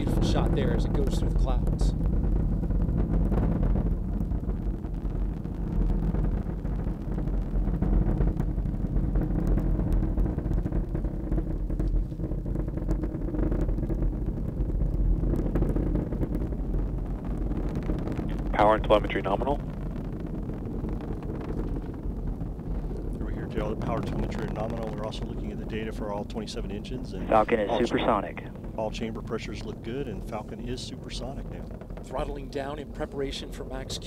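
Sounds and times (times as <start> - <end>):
rocket engines rumbling: 0.0 - 34.0.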